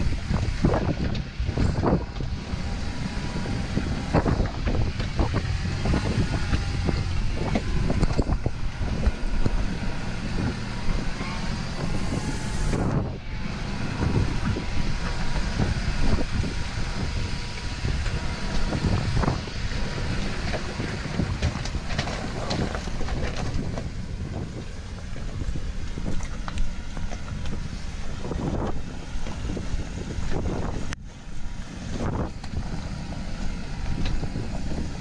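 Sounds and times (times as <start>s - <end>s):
tyres churning through gravel: 0.0s - 35.0s
vehicle engine running: 0.0s - 35.0s
wind buffeting microphone: 0.0s - 35.0s.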